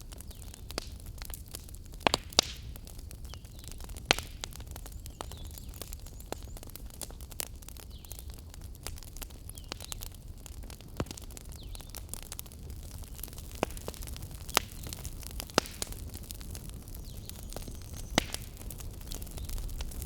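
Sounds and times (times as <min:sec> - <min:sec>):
low rumble of flames: 0:00.0 - 0:20.0
sharp pops from fire: 0:00.0 - 0:20.0
wood fire crackling: 0:00.0 - 0:20.0.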